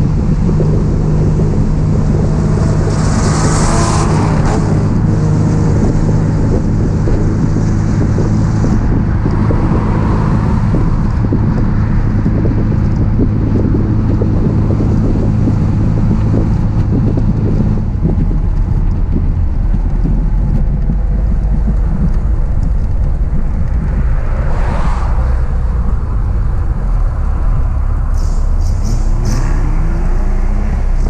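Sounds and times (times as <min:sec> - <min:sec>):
car engine running: 0:00.0 - 0:31.0
wind rushing over microphone: 0:00.0 - 0:31.0.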